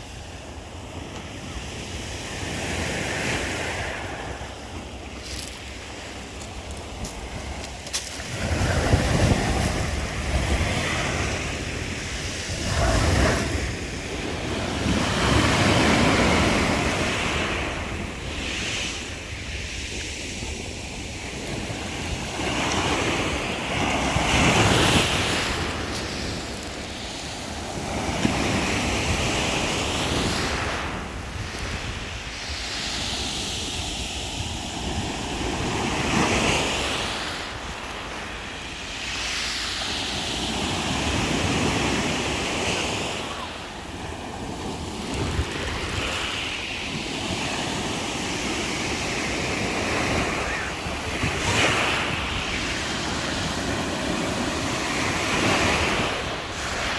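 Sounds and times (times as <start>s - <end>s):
waves breaking on shore: 0.0s - 56.9s
wind buffeting microphone: 2.5s - 37.8s, 43.9s - 56.9s.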